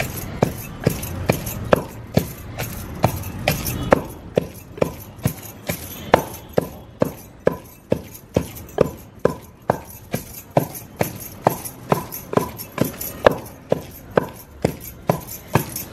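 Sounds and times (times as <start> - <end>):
rhythmic ringing knocks: 0.0 - 15.9.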